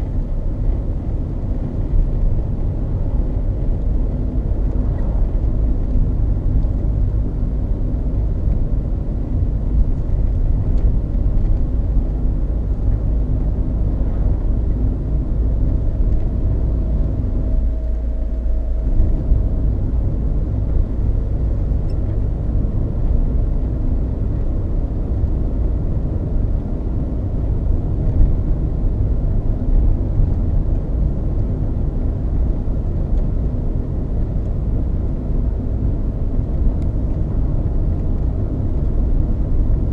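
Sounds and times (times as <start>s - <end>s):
tyre road noise rumble: 0.0s - 39.9s.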